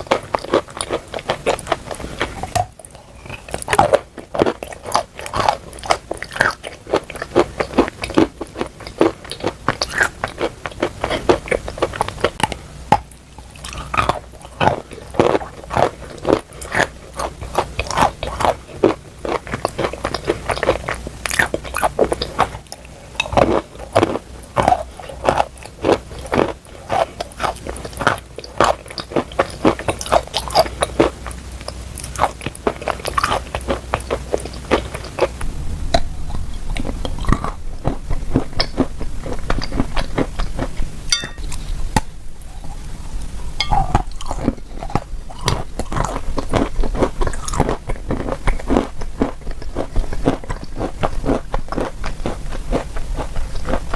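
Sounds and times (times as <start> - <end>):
crunchy chewing: 0.0 - 12.6, 13.5 - 22.5, 31.7 - 53.9.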